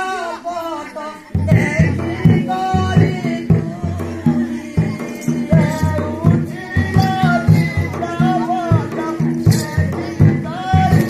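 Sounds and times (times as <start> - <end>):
barrel drum beaten in steady rhythm: 1.4 - 11.0.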